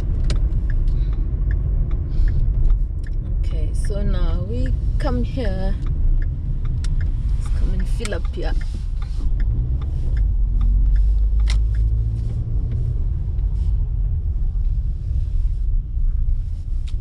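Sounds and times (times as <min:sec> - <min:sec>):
car engine and road rumble: 0:00.0 - 0:17.0
light ticks: 0:00.0 - 0:17.0.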